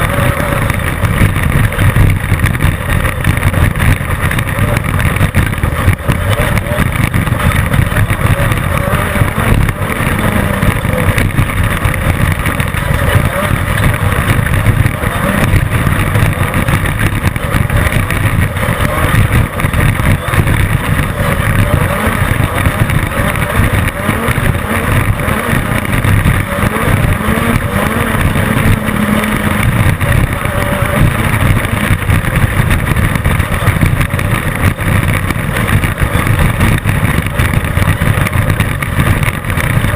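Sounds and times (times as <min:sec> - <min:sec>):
race car engine running: 0:00.0 - 0:39.9
rushing noise: 0:00.0 - 0:39.9.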